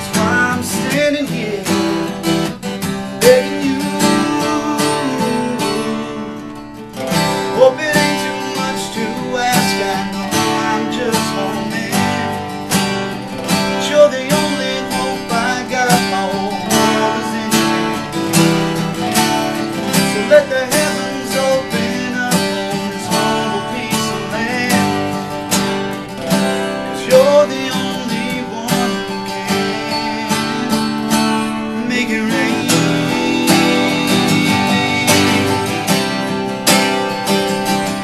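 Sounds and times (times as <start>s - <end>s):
country music with strummed guitar: 0.0s - 38.0s.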